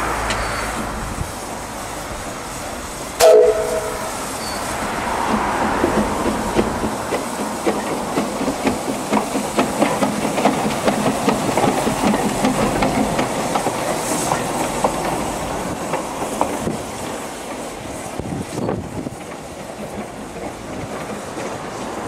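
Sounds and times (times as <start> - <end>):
steam hiss: 0.0 - 22.0
steam locomotive wheels clanking: 0.2 - 22.0.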